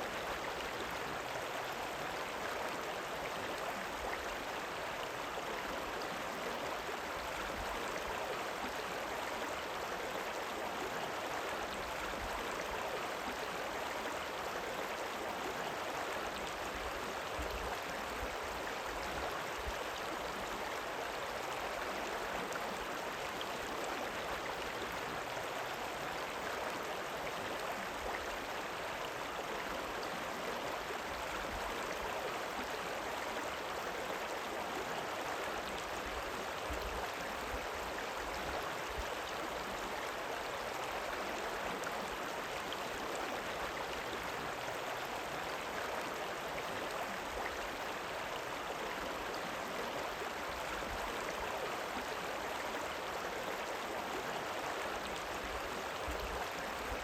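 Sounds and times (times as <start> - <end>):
river water running: 0.0 - 57.0.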